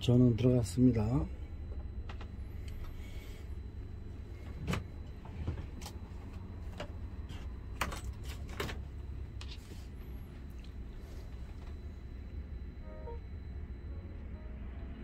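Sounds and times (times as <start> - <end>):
radio mains hum: 0.0 - 15.0.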